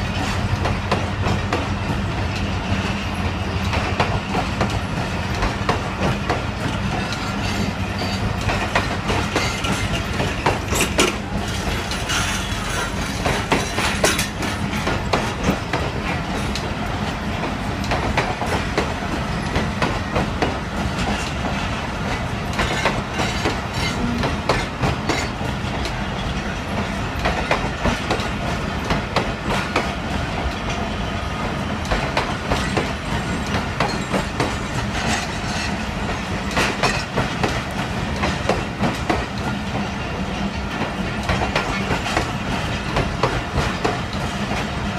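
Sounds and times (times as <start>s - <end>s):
train low rumble: 0.0s - 44.9s
wheels clicking over rail joints: 3.6s - 30.8s, 31.8s - 44.9s.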